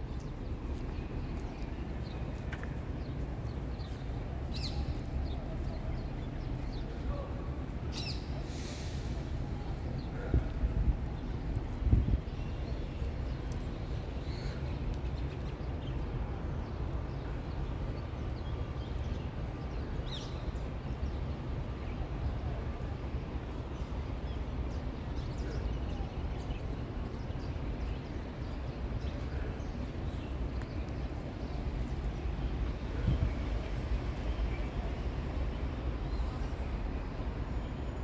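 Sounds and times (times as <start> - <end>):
steady low rumble: 0.0 - 37.5.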